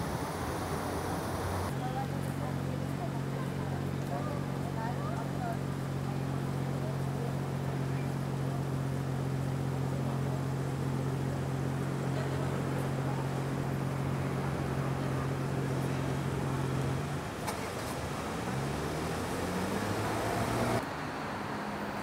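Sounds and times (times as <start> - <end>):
city background noise: 0.0 - 22.0.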